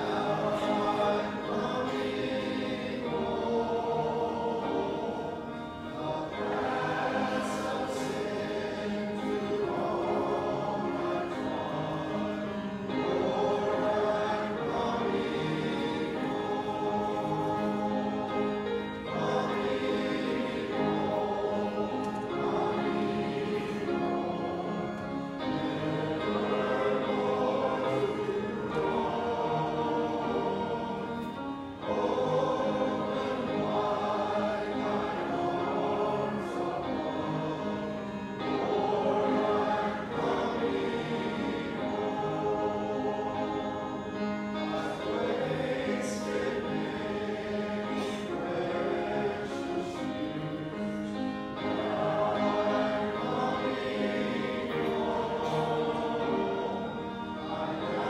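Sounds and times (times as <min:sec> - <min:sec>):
congregation singing a hymn: 0:00.0 - 0:58.0
piano accompaniment: 0:00.0 - 0:58.0.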